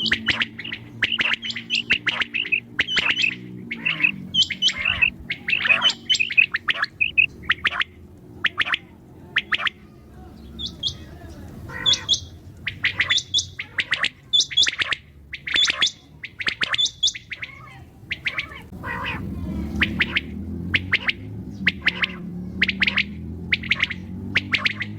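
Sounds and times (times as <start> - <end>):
low background rumble: 0.0 - 24.9
quail calling: 0.0 - 24.9.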